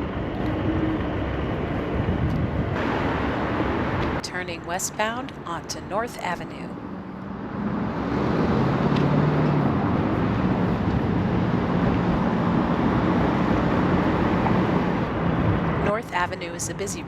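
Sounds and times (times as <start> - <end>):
low vehicle engine hum: 0.0 - 17.0
passing traffic din: 0.0 - 17.0.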